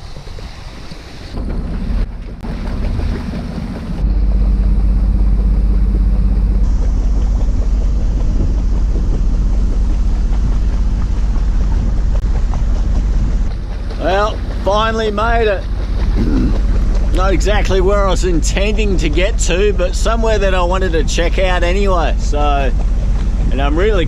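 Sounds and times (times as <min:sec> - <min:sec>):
waves washing by: 0:00.0 - 0:24.0
wind buffeting microphone: 0:00.0 - 0:24.0.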